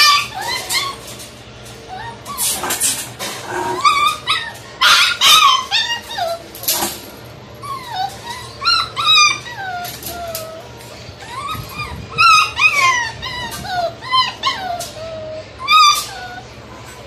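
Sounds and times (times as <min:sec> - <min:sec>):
puppies whining and yipping: 0:00.0 - 0:17.0.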